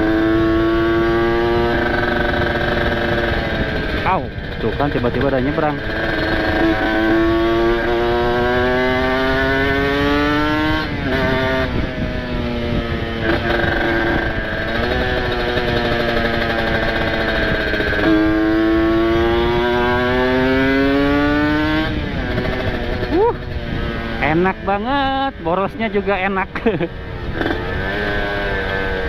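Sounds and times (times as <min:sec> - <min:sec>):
two-stroke motorcycle accelerating: 0:00.0 - 0:29.0.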